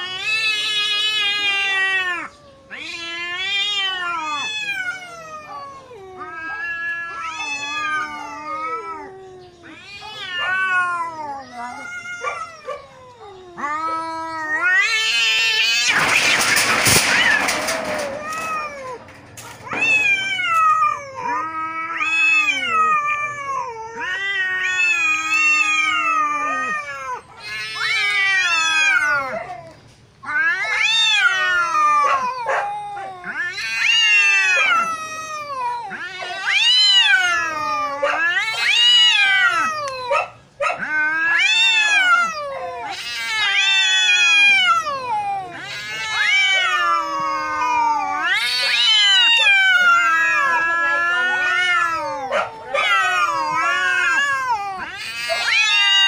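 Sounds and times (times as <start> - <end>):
cats yowling: 0.0 - 56.0.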